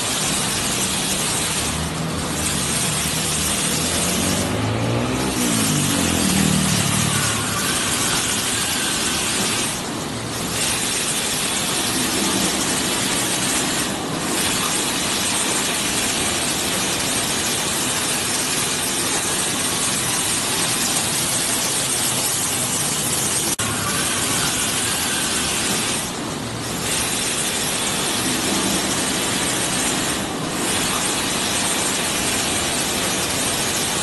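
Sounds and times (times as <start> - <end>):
car-wash brush rushing: 0.0 - 34.0.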